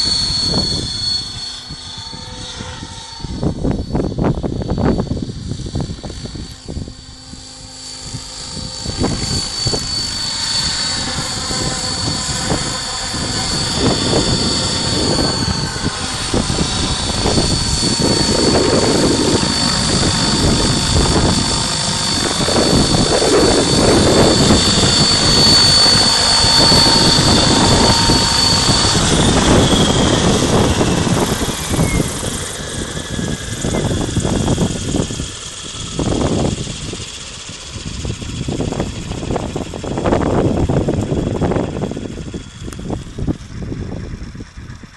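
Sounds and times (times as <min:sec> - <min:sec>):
electric motor and gear whine: 0:00.0 - 0:44.9
whoosh of rotor blades: 0:00.0 - 0:44.9.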